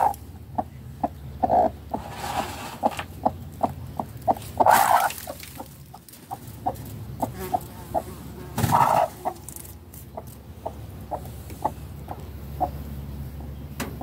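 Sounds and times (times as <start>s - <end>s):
hen clucking: 0.0s - 14.0s.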